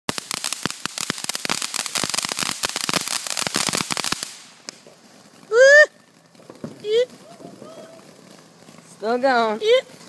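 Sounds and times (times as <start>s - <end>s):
firework fountain crackling: 0.1s - 10.0s.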